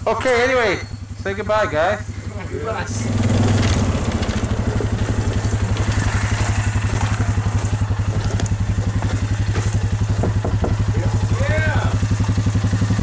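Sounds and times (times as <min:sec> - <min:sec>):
small engine running: 0:00.2 - 0:13.0.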